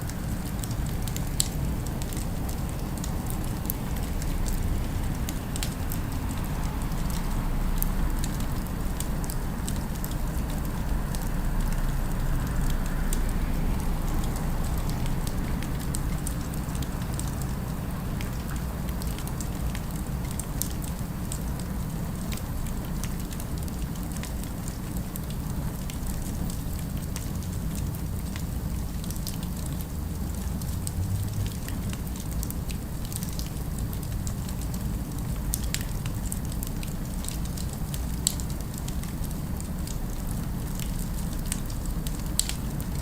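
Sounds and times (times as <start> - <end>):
fireplace fire crackling: 0.0 - 43.0
low city ambience rumble: 0.0 - 43.0.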